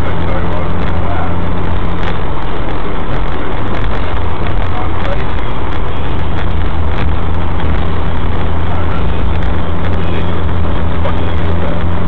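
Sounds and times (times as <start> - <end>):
car engine drone: 0.0 - 12.0
wind noise: 0.0 - 12.0.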